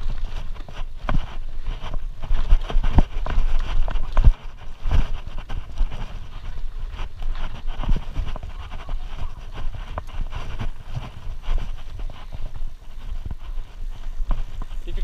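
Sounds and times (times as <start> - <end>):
bike knocking and rattling: 0.0 - 15.0
bike tyres crunching on dirt: 0.0 - 15.0
wind noise on microphone: 0.0 - 15.0.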